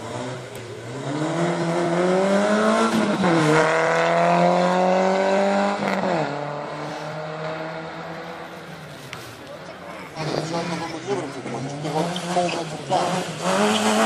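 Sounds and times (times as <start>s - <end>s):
rally car accelerating hard: 0.0s - 8.6s, 10.1s - 14.0s.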